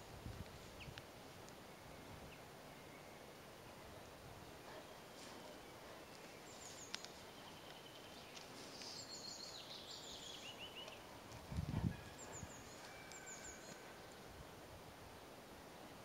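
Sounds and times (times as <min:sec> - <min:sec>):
songbirds singing: 0:00.0 - 0:14.4.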